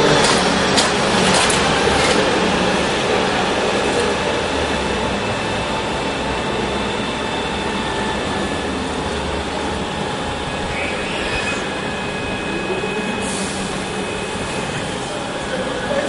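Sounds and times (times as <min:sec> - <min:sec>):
street noise: 0:00.0 - 0:16.0
trolleybus electric hum: 0:00.0 - 0:16.0.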